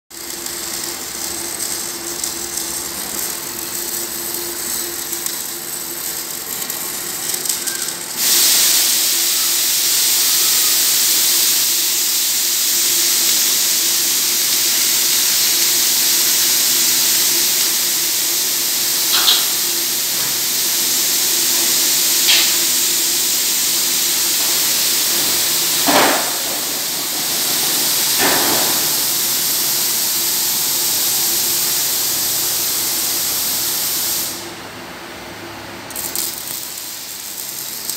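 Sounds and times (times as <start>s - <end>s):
loud steady hiss: 0.1s - 37.9s.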